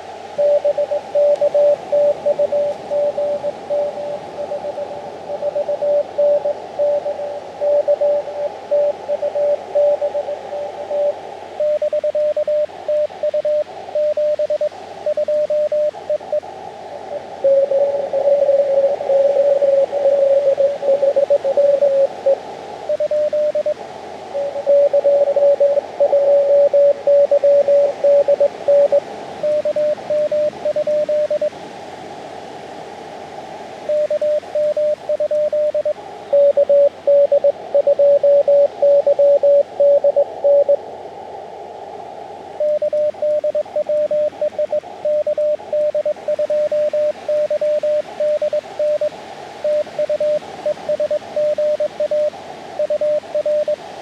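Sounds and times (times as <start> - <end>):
radio receiver hiss: 0.0 - 54.0
morse code tone: 0.4 - 16.4, 17.4 - 23.8, 24.4 - 31.5, 33.9 - 40.8, 42.6 - 53.8.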